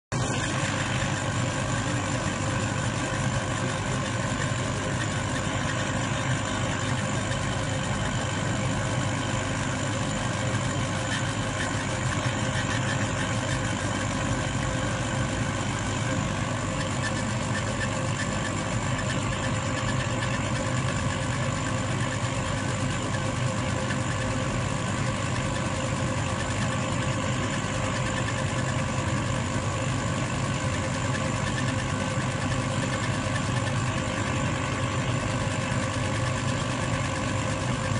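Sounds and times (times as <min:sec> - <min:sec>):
laser engraving machine hum: 0:00.1 - 0:37.9.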